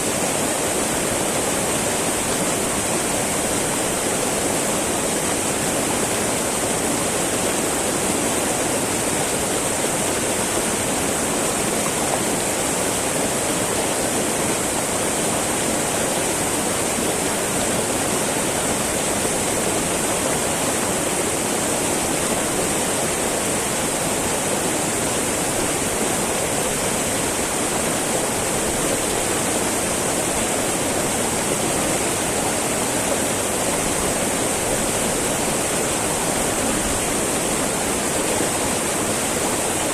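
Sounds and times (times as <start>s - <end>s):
river babbling: 0.0s - 39.9s.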